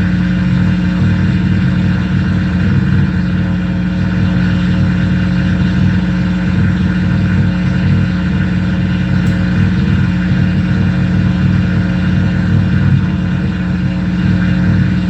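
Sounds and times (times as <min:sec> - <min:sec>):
droning feedback hum: 0:00.0 - 0:15.0
rapid bass flutter: 0:00.0 - 0:15.0.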